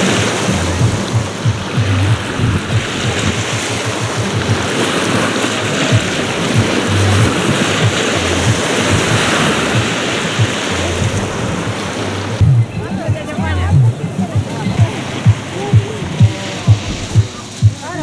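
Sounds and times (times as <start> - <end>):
waves washing over pebbles: 0.0 - 18.0
wind buffeting microphone: 0.0 - 18.0.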